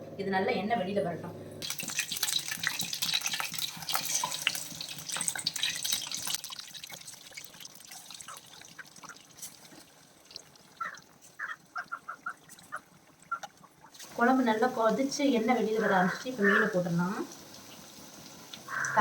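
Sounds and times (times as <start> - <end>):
food sizzling and crackling: 1.6 - 19.0.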